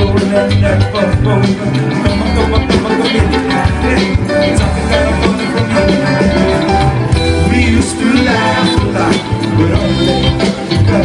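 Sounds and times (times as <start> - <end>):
live band playing: 0.0 - 11.0
voices singing: 0.0 - 11.0.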